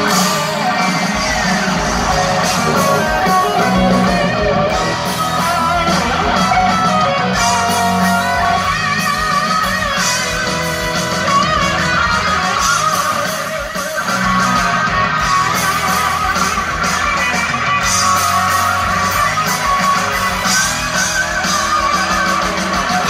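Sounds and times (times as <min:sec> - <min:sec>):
electric guitars: 0:00.0 - 0:23.0
live hard rock band: 0:00.0 - 0:23.0.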